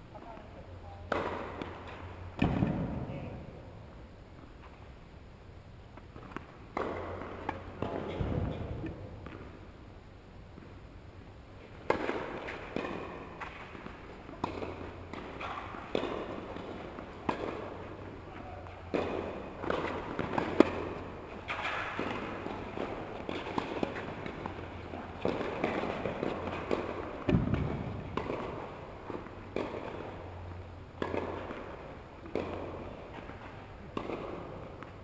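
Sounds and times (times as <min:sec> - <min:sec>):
steady low hum: 0:00.0 - 0:35.0
tennis balls struck by rackets: 0:00.2 - 0:03.6, 0:05.9 - 0:09.7, 0:10.5 - 0:35.0.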